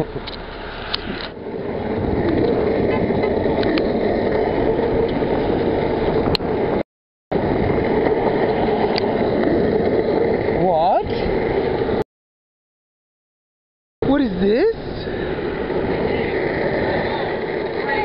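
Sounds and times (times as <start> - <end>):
street traffic passing: 0.0 - 12.0, 14.0 - 18.0.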